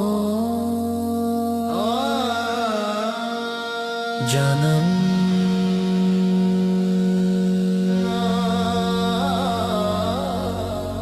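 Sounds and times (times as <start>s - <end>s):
person singing long vowel: 0.0s - 11.0s.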